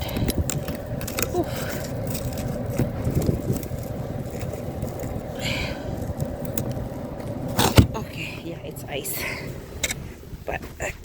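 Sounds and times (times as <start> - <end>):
ice scraped off windshield: 0.0 - 10.2
steady hum: 0.0 - 11.0.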